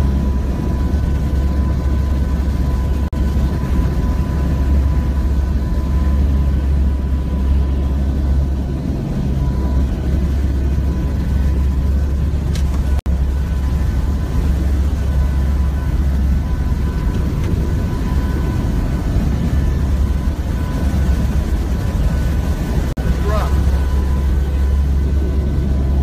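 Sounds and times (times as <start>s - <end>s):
aircraft engines droning: 0.0s - 26.0s
thin steady whine: 0.0s - 26.0s.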